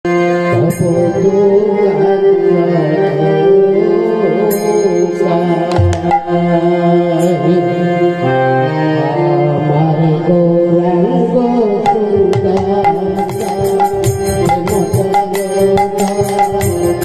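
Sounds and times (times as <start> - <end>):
devotional music with drone: 0.1 - 17.0.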